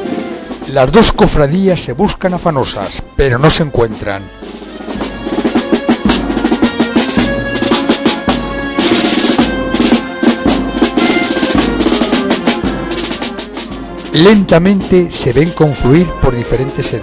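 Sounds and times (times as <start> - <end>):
snare drum rolls: 0.0 - 3.0, 3.9 - 16.2
held instrumental notes: 0.0 - 17.0.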